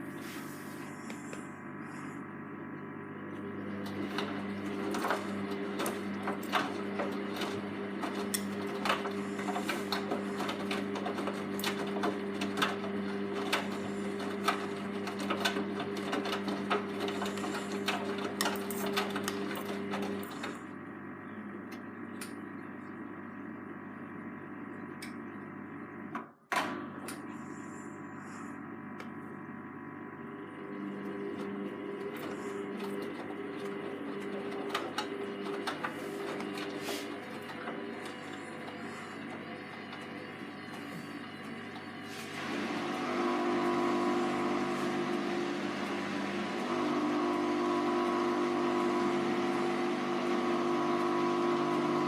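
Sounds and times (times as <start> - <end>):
washing machine drum motor hum: 0.0 - 52.0.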